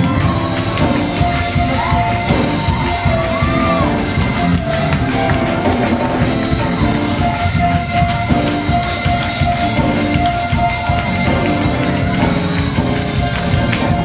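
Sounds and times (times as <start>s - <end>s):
drum kit beat: 0.0s - 14.0s
live gospel church band: 0.0s - 14.0s.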